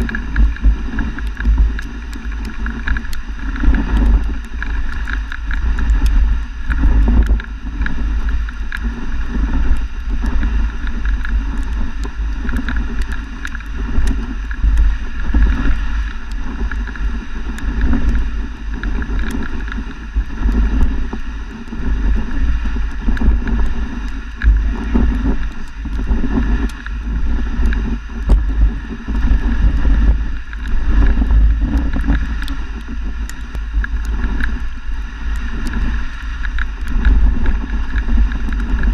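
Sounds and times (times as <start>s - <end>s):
sled runners scraping snow: 0.0s - 38.9s
wind buffeting microphone: 0.0s - 38.9s.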